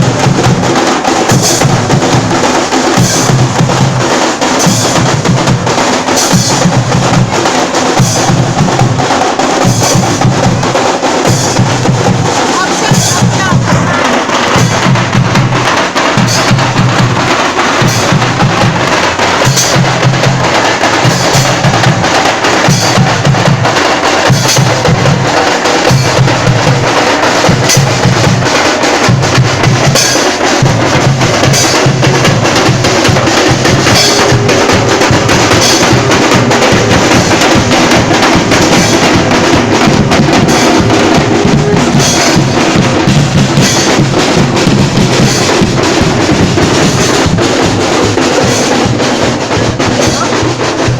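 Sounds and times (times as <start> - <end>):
loud rhythmic drumming: 0.0 - 50.9.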